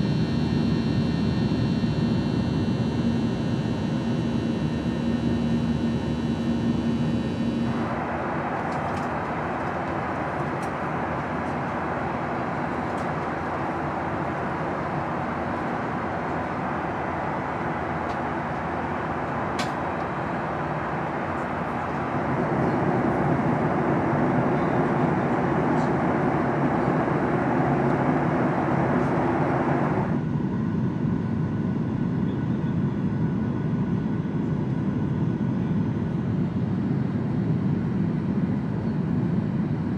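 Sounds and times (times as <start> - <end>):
jet engine and airflow in cabin: 0.0 - 39.9.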